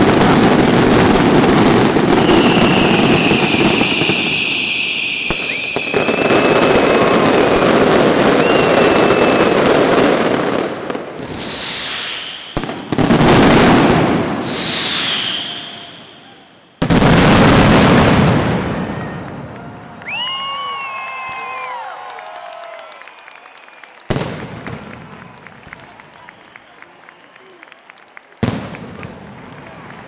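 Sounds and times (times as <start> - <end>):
fireworks crackling and banging: 0.0 - 16.1, 16.8 - 21.5, 24.0 - 27.2, 27.8 - 30.0
fireworks falling whistles: 0.0 - 19.2, 23.0 - 29.1.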